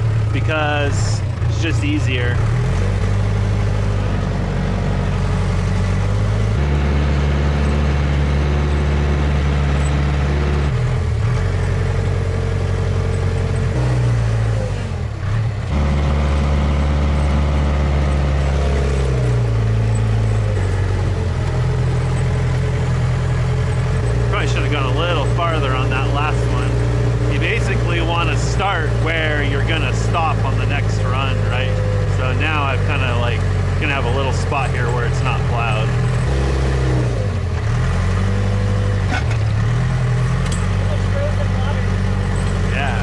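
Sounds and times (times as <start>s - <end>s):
backhoe loader engine running: 0.0s - 43.0s.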